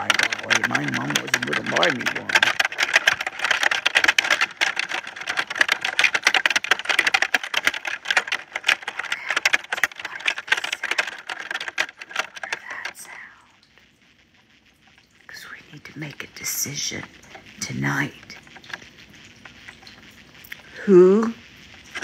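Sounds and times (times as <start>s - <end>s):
fast keyboard typing: 0.0s - 13.4s, 15.3s - 20.6s, 21.7s - 22.0s.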